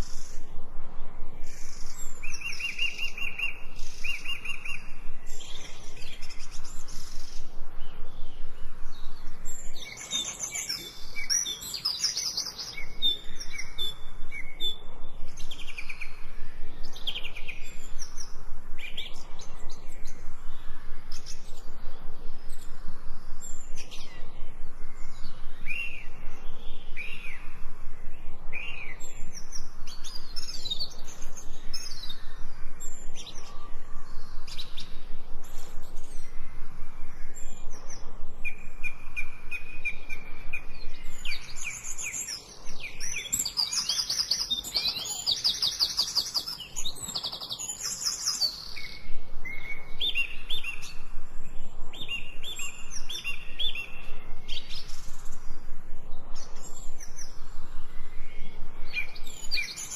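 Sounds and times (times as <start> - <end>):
steady low hiss: 0.0 - 59.9
birds chirping and singing: 1.4 - 59.9.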